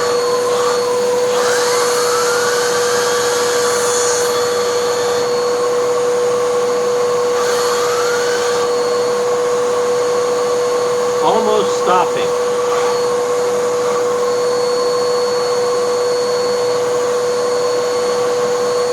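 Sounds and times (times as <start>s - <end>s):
vacuum cleaner running: 0.0s - 18.9s.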